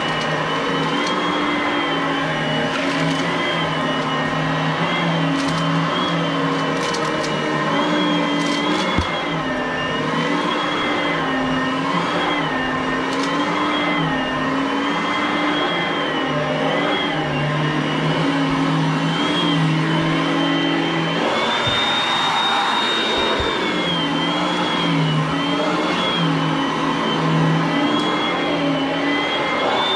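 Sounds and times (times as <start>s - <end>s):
vacuum cleaner motor humming: 0.0s - 29.9s.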